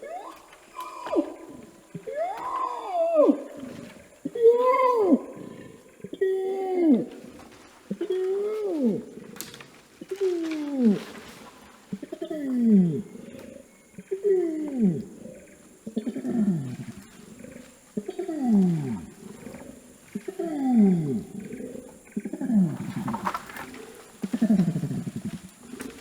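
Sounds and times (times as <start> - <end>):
orangutan deep calls: 0.0 - 26.0.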